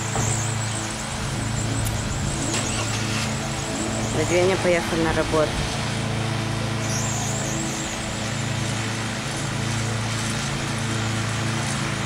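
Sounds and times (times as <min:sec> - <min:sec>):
petrol engine running steadily: 0:00.0 - 0:12.0.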